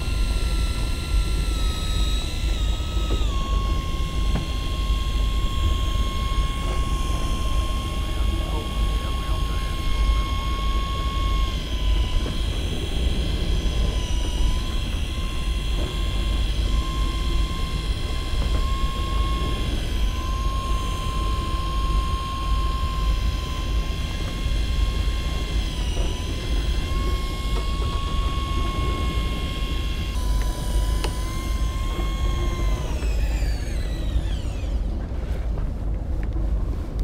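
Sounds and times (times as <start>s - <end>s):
high-pitched whine: 0.0s - 35.6s
boat engine droning: 0.0s - 35.9s.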